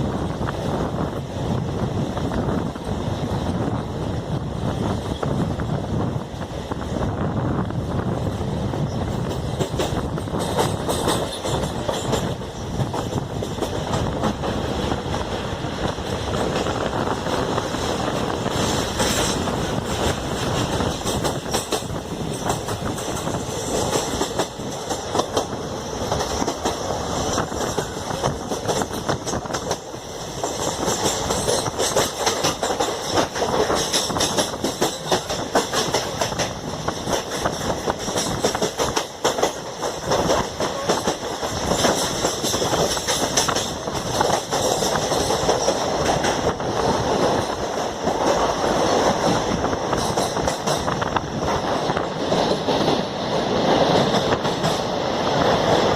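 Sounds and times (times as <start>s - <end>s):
train rumble: 0.0s - 55.9s
train wheels clattering: 8.0s - 55.9s.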